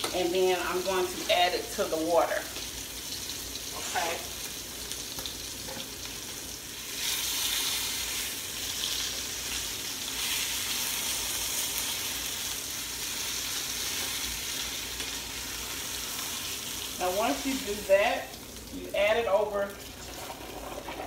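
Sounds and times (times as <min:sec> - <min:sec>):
meat sizzling in a skillet: 0:00.0 - 0:20.9.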